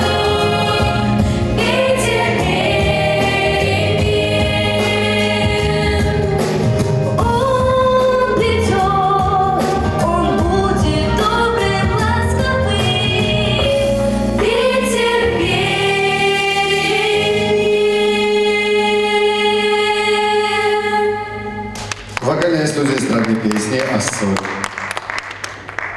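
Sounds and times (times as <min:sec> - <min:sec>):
group of young singers: 0:00.0 - 0:21.8.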